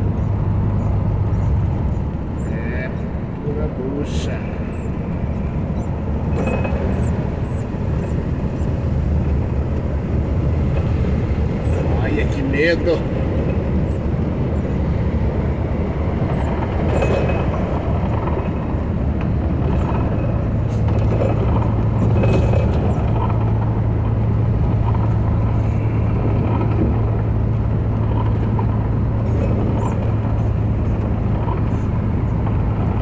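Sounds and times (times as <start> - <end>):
engine hum: 0.0 - 33.0
low steady drone: 0.0 - 33.0
wet road noise: 0.0 - 33.0.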